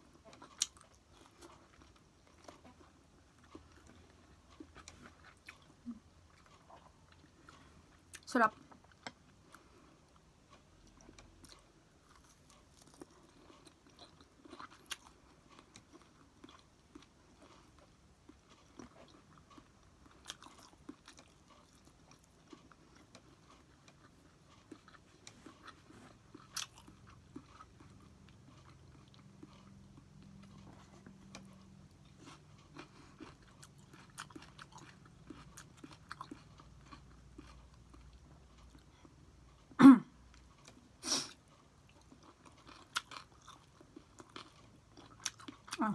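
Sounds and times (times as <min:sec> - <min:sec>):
chewing and biting food: 0:00.0 - 0:45.9.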